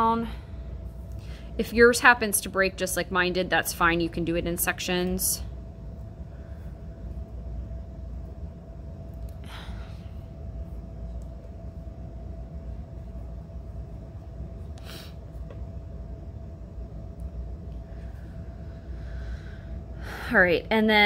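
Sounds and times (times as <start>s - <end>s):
faint hum: 0.0s - 21.0s
low room rumble: 0.0s - 21.0s.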